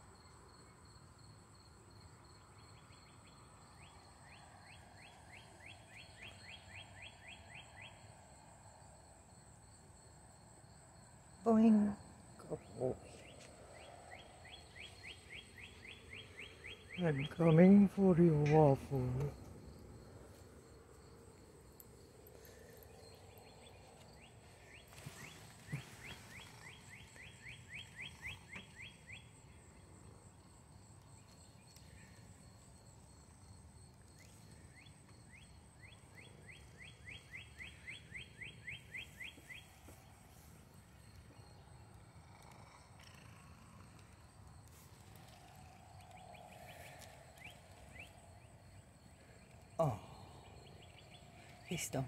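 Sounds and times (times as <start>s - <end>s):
faint high insect chirring: 0.0s - 52.0s.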